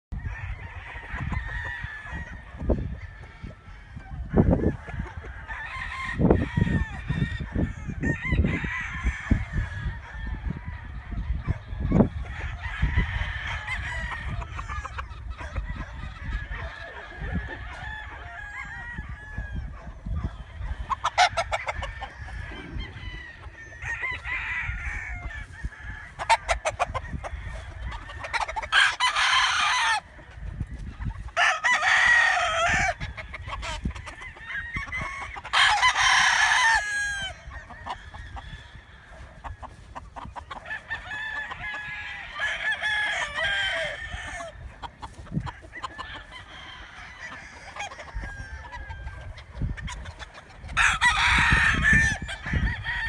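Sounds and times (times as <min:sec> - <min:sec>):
rooster crowing: 0:00.1 - 0:39.9, 0:40.6 - 0:49.7, 0:50.7 - 0:53.0
chickens clucking: 0:00.1 - 0:53.0.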